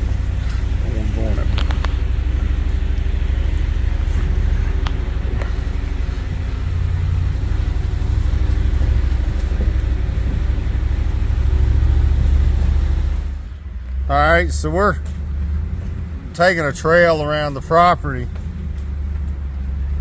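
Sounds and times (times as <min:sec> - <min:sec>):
knocks and rattles: 0:00.0 - 0:14.1, 0:14.7 - 0:20.0
truck engine and road rumble: 0:00.0 - 0:20.0.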